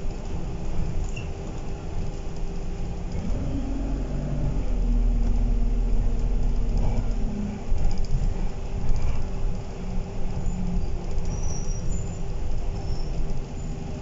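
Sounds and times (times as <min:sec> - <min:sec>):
bus diesel engine rumble: 0:00.0 - 0:14.0.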